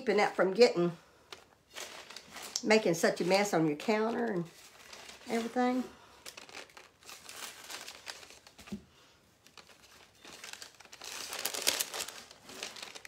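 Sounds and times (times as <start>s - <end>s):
paper crinkling and rustling: 1.3s - 13.0s.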